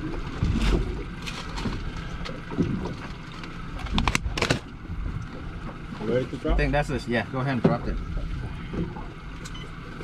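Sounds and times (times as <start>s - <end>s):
boat engine rumble: 0.0s - 10.0s
water noise: 0.0s - 10.0s.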